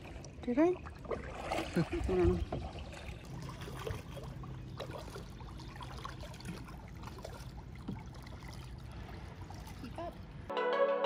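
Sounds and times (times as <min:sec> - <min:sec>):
small splashes: 0:00.0 - 0:10.5
water lapping and trickling: 0:00.0 - 0:10.5.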